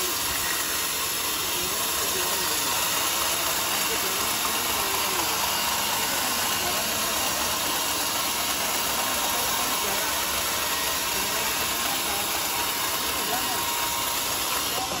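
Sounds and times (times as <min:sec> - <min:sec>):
band saw cutting wood: 0:00.0 - 0:15.0.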